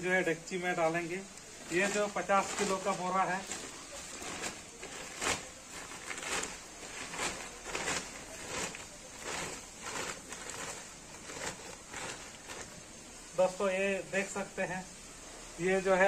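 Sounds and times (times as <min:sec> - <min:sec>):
plastic sack rustling and crinkling: 0:00.7 - 0:13.6.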